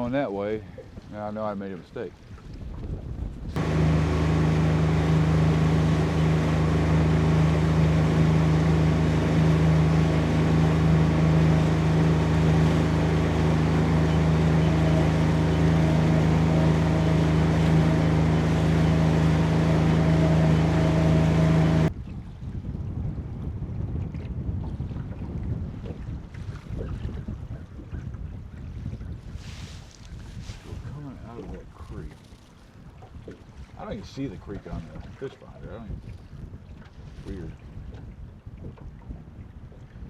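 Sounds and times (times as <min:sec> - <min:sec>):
outboard motor droning: 0:00.0 - 0:40.0.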